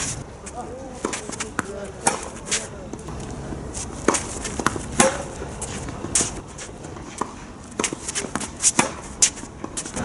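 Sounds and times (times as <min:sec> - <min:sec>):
tennis ball bouncing on court: 0:01.0 - 0:03.2, 0:04.0 - 0:10.0
racket hitting tennis ball: 0:01.0 - 0:10.0.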